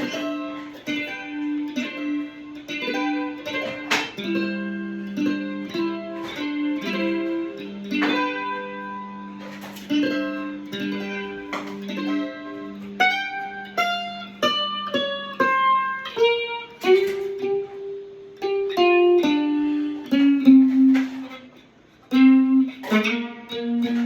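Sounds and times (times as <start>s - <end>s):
electric mandolin playing blues: 0.0s - 24.0s.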